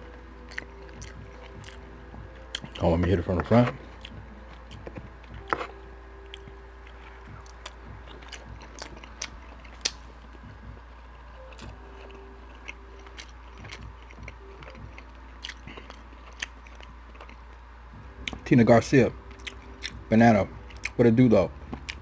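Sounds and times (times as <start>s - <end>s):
person chewing with mouth clicks: 0.4s - 17.6s, 19.3s - 21.0s, 21.7s - 22.0s.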